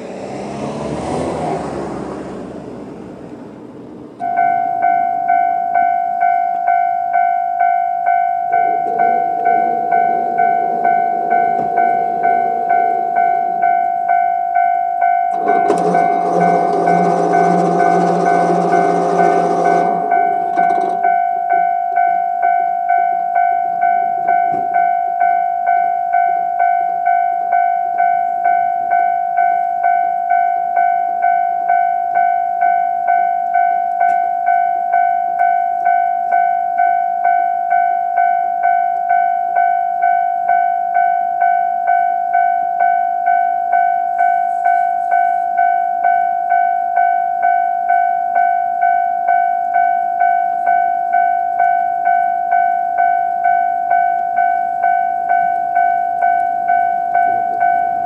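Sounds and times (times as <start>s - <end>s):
level crossing warning bell: 0.0s - 58.0s.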